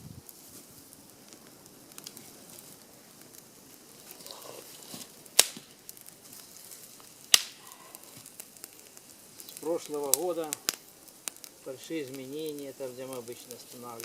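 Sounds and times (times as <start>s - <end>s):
campfire crackling softly: 0.0s - 14.0s
loud sharp pops of fire: 0.0s - 14.0s.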